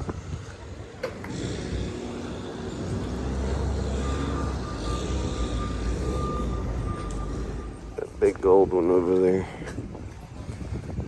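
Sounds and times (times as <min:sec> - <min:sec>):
thin steady whine: 0:00.0 - 0:10.6
vehicle engine rumbling: 0:00.0 - 0:11.0.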